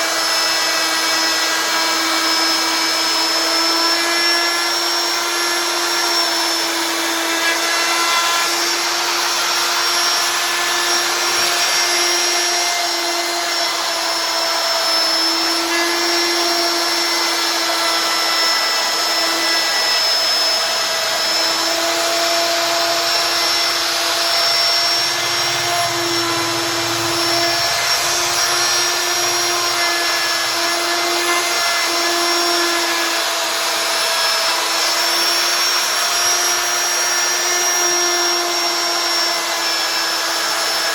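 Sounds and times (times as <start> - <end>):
router motor whine: 0.0 - 40.9.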